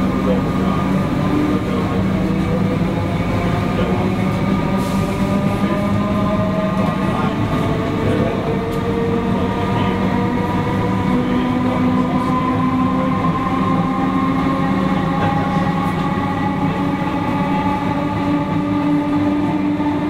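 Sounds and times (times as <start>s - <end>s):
train running noise in tunnel: 0.0s - 20.0s.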